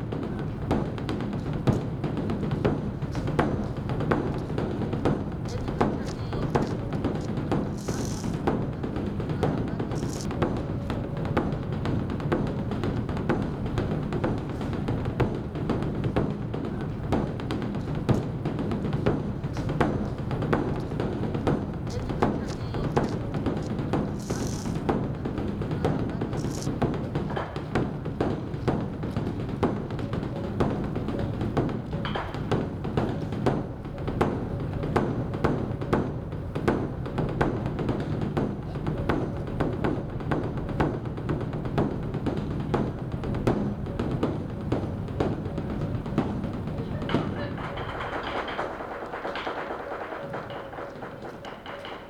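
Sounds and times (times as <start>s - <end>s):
large drum beaten with sticks: 0.0s - 52.0s.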